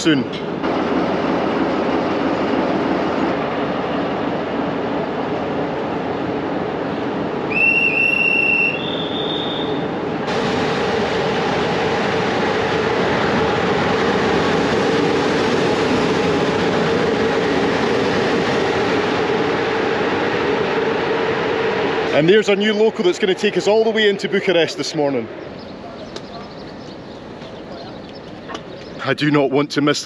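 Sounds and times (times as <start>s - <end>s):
train running noise: 0.0s - 30.0s.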